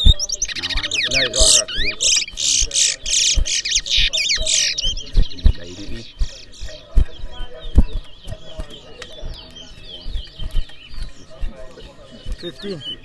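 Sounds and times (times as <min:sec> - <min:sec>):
finch singing whistles and trills: 0:00.0 - 0:13.0.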